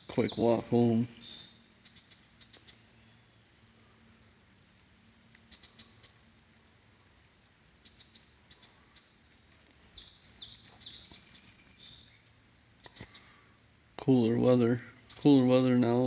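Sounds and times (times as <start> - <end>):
light rain pattering: 0.0 - 16.0.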